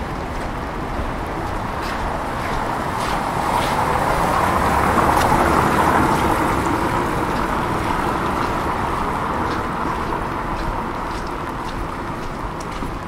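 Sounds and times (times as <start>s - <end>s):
tyre hiss on wet street: 0.0s - 13.0s.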